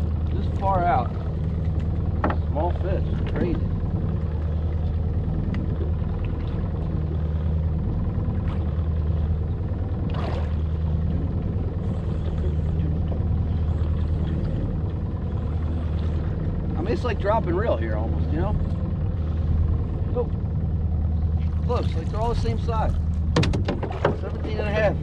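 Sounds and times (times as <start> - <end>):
outboard motor idling: 0.0 - 25.0.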